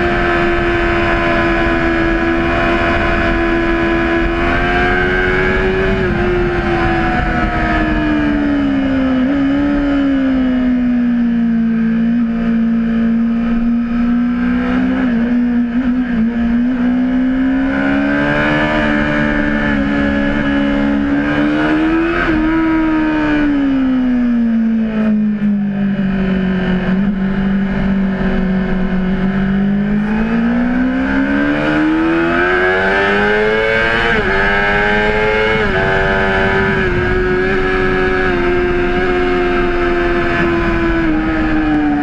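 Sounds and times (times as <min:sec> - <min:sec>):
motorcycle engine at high revs: 0:00.0 - 0:42.0.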